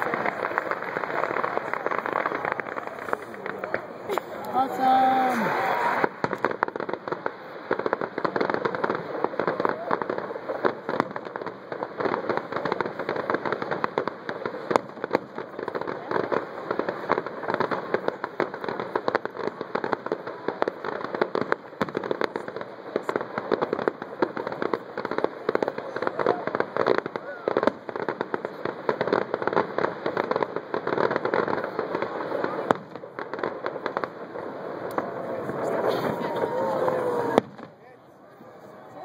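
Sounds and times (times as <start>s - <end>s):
sharp firework bangs: 0.0s - 37.9s
fireworks crackling: 0.0s - 39.0s.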